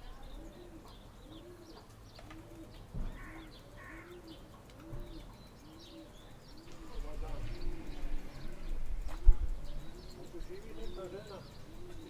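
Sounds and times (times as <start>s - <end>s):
pigeon cooing: 0.0s - 12.0s
small birds chirping: 0.0s - 12.0s.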